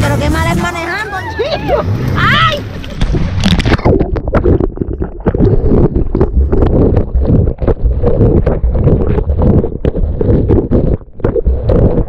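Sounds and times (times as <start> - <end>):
churning water rushing: 0.0 - 12.0
water thudding on camera: 2.0 - 12.0.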